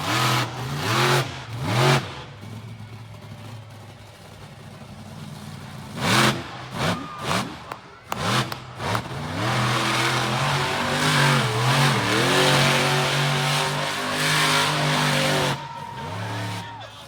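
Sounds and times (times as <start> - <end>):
monster truck engine revving: 0.0 - 16.8.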